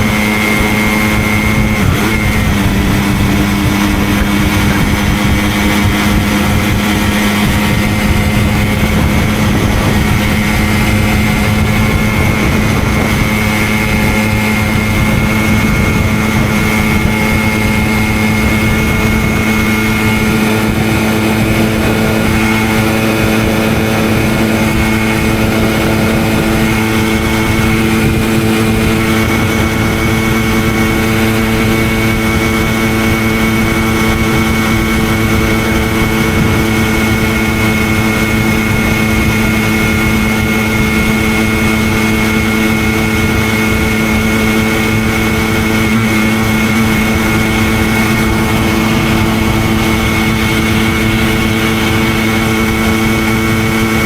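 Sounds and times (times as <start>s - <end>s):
two-stroke moped engine running: 0.0s - 54.0s.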